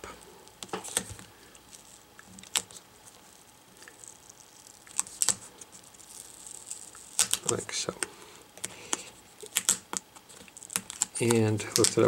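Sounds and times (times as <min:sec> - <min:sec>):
tape peeling with faint crinkling: 0:00.0 - 0:12.0.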